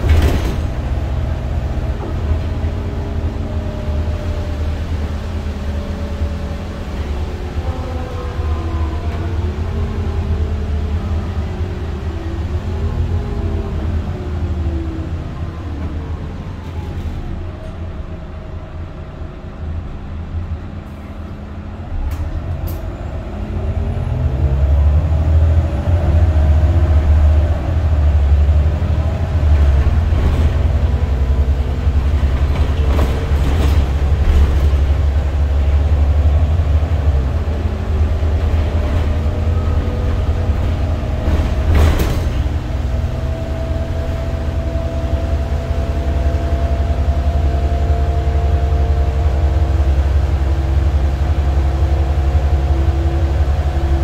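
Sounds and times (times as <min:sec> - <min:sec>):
bus diesel engine accelerating: 0:00.0 - 0:54.0.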